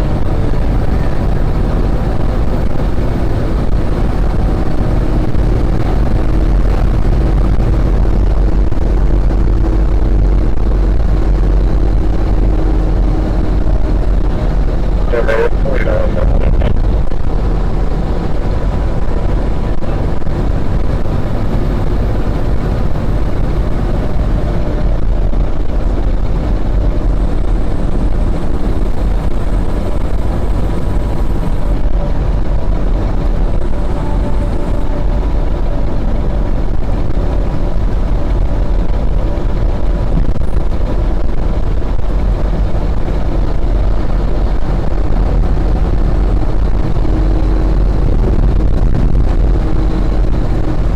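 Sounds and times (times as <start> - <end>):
fire engine driving: 0.0 - 50.9.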